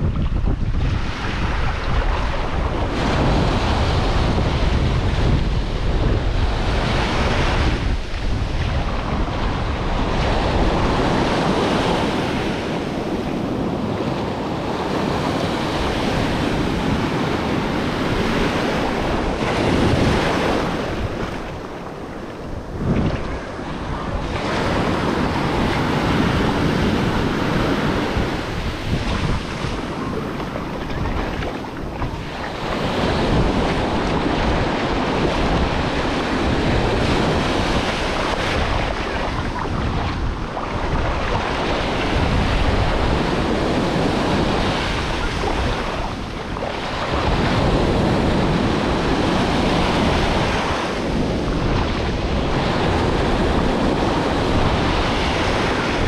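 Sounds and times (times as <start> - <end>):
ocean surf breaking: 0.0 - 56.0
wind buffeting microphone: 0.0 - 56.0.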